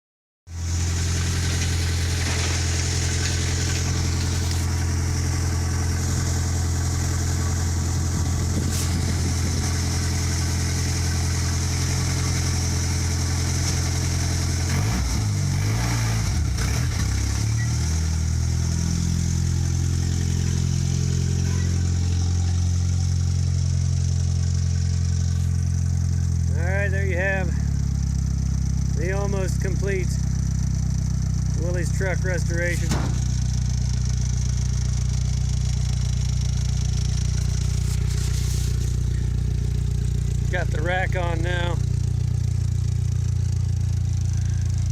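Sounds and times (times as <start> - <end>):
truck engine idling: 0.5 - 14.7, 17.4 - 44.9.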